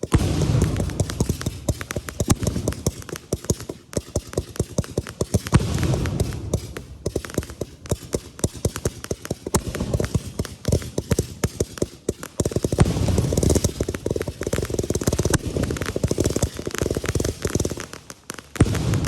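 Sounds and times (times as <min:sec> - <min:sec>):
fireworks crackling pops: 0:00.0 - 0:19.0.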